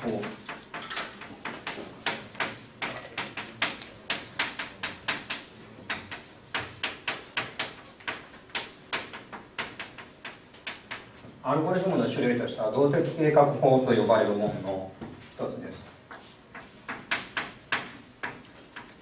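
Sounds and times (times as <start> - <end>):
chalk tapping on a blackboard: 0.0 - 11.4, 14.6 - 19.0.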